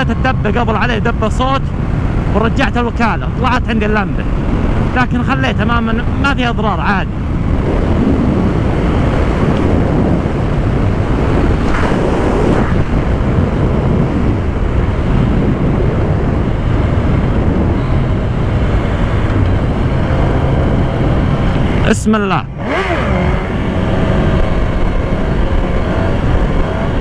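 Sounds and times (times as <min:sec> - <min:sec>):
motorcycle engine: 0:00.0 - 0:27.0
wind rushing over microphone: 0:00.0 - 0:27.0.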